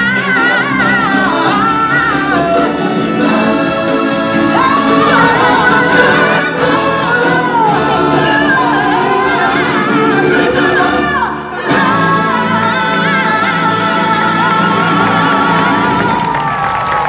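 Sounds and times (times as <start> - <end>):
singers with chorus: 0.0 - 16.6
backing music: 0.0 - 17.0.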